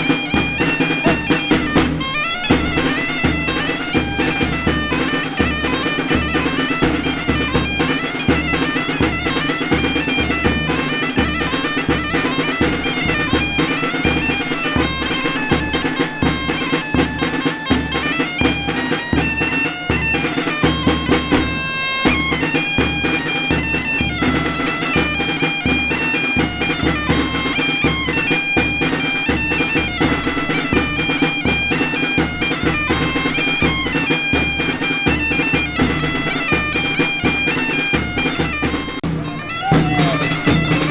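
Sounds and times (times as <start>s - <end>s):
drum beating: 0.0s - 40.9s
reed pipe melody: 0.0s - 40.9s.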